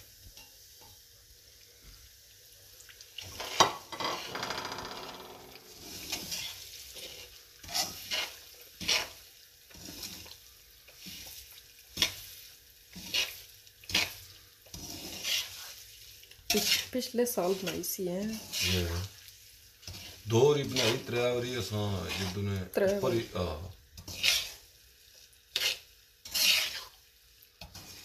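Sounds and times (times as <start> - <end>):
semolina sizzling in oil: 0.0 - 28.0
metal spoon scraping a pan: 3.2 - 4.6, 5.5 - 23.4, 24.0 - 28.0.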